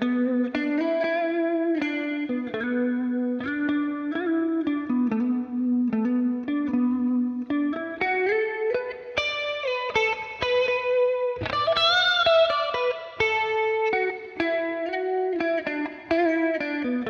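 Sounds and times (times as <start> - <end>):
electric guitar lead melody: 0.0 - 17.0.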